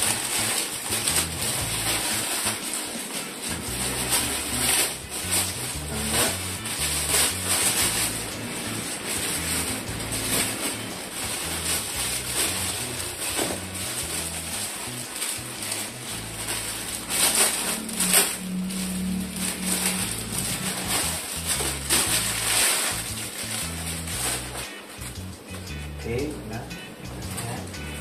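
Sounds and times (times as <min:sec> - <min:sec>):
bubble wrap crinkling: 0:00.0 - 0:25.7.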